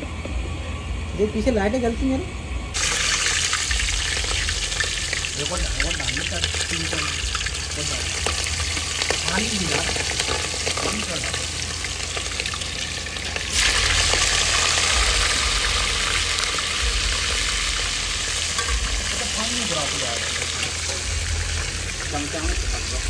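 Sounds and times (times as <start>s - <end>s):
fish frying in hot oil: 2.8s - 23.0s.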